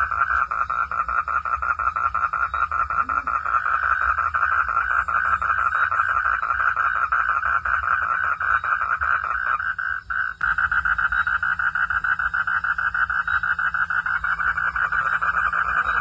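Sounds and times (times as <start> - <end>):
frogs calling: 0.0 - 16.0.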